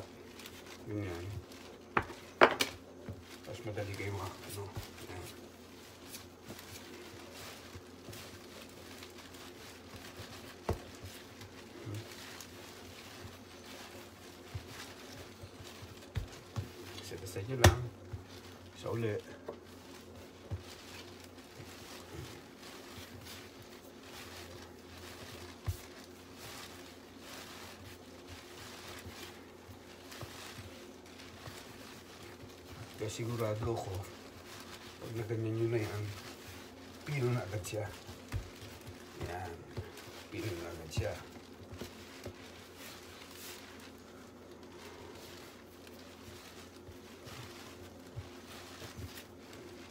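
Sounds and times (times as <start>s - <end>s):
hands kneading dough: 0.0s - 49.9s
low steady hum: 0.0s - 49.9s.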